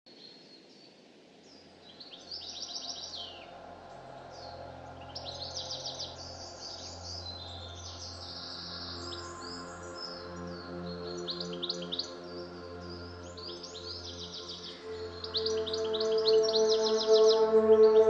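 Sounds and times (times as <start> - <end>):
songbirds singing: 0.1 - 18.0
low steady drone: 2.8 - 18.0.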